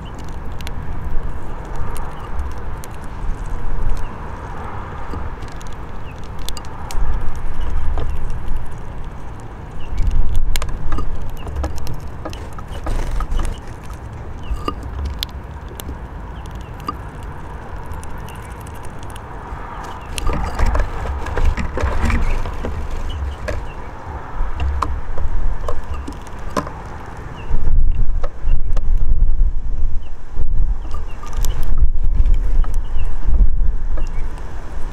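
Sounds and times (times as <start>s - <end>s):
outdoor background rumble: 0.0s - 34.9s
wind buffeting microphone: 0.0s - 34.9s.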